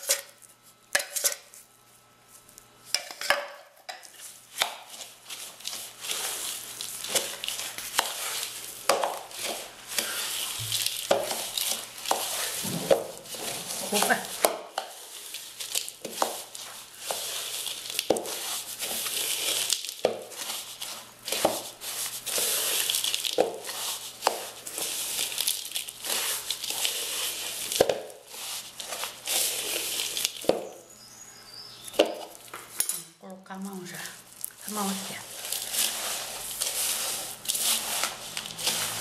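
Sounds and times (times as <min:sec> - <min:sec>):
hand mixing crumbly mass: 0:04.0 - 0:30.9, 0:31.9 - 0:32.8, 0:33.4 - 0:39.0.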